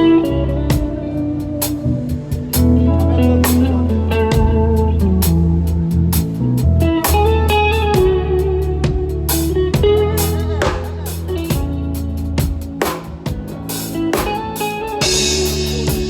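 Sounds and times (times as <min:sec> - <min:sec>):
bass guitar: 0:00.0 - 0:16.0
drum kit beat: 0:00.0 - 0:16.0
electric guitar: 0:00.0 - 0:16.0.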